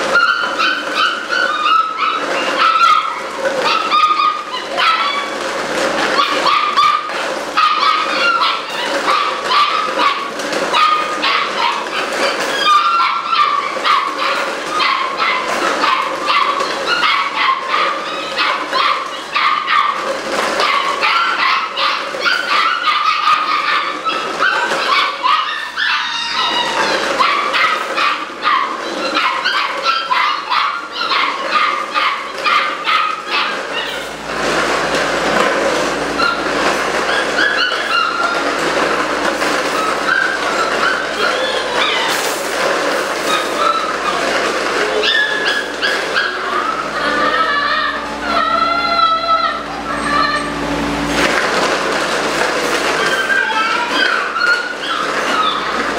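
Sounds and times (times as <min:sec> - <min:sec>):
puppies yipping and barking: 0:00.0 - 0:55.9.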